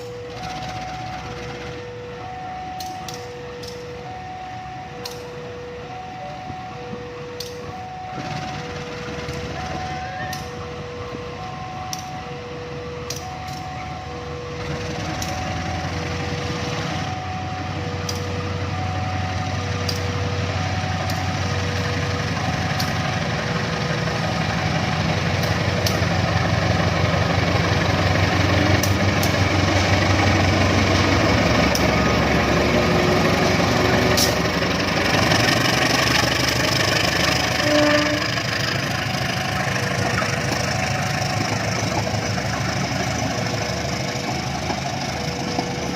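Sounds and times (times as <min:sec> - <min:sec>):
level-crossing signal beeping: 0:00.0 - 0:45.9
train rumbling past: 0:00.0 - 0:45.9
wheels clicking on rails: 0:06.4 - 0:12.3, 0:13.0 - 0:18.8, 0:19.4 - 0:45.9.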